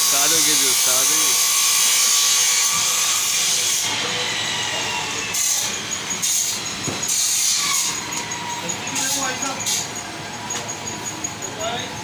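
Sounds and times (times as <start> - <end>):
shop background noise: 0.0 - 12.0.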